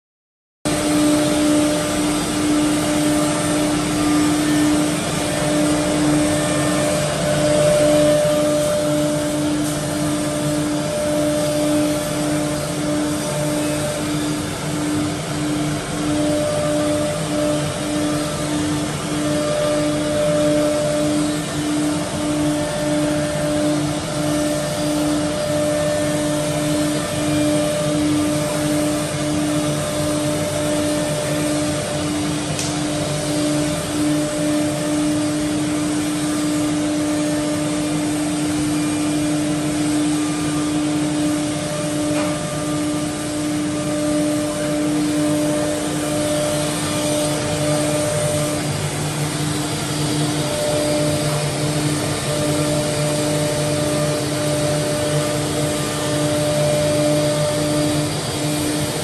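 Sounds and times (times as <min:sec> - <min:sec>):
cnc router whirring: 0:00.7 - 0:59.0
dust extraction running: 0:00.7 - 0:59.0.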